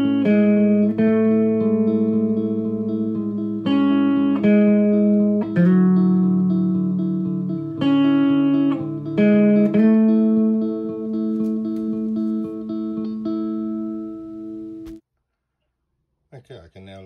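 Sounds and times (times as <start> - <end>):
guitar picking notes and chords: 0.0 - 15.0.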